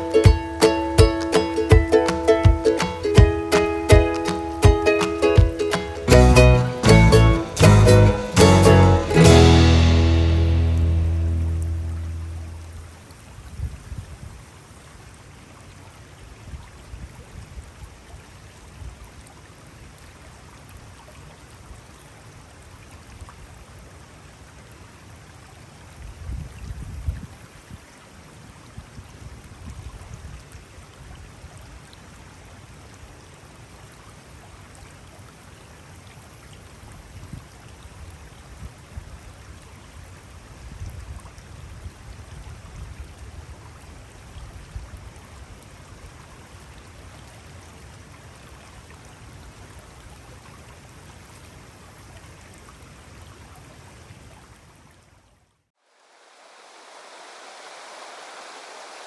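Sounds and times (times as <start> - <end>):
mountain stream flowing: 0.0 - 59.0.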